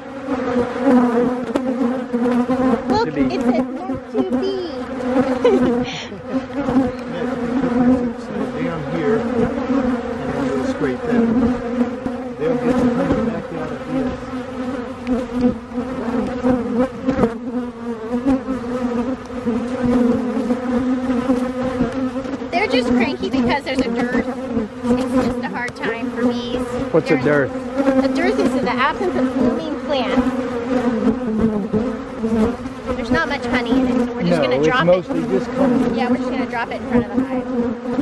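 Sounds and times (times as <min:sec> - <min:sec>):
bees buzzing: 0:00.0 - 0:38.0.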